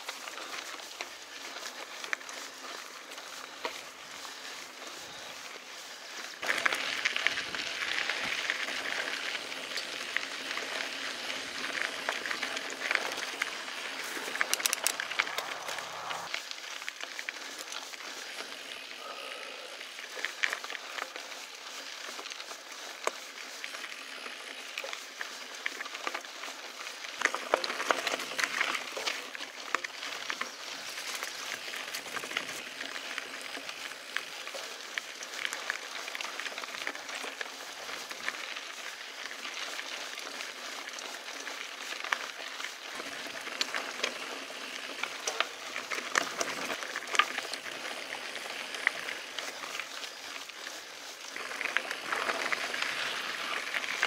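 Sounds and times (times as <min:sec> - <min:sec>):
bike clicks and rattles: 0:00.0 - 0:18.9, 0:19.9 - 0:54.0
bike tyres crunching on gravel: 0:00.0 - 0:54.0.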